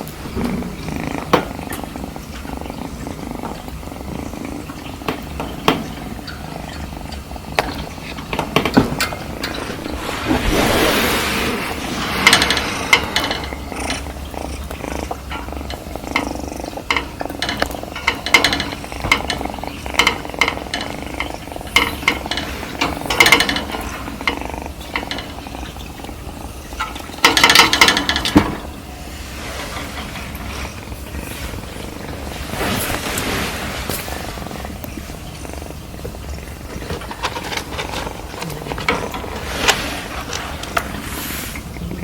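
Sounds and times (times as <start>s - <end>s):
clicks and rustles: 0.0s - 42.0s
kitten purring: 0.0s - 42.0s.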